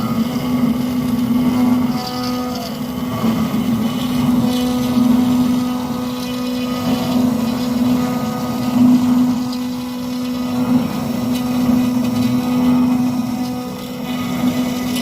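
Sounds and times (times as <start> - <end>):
electric pump hum: 0.0 - 15.0.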